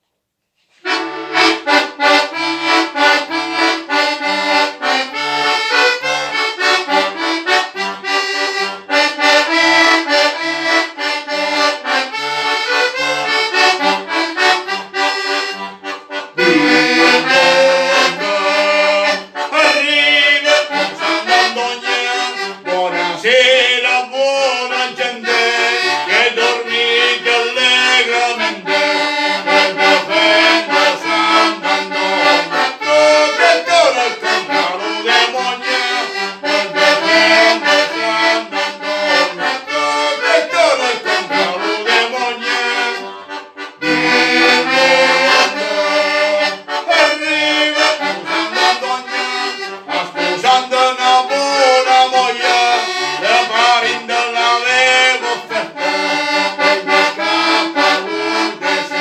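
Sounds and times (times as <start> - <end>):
button accordion playing folk tune: 0.6 - 59.0.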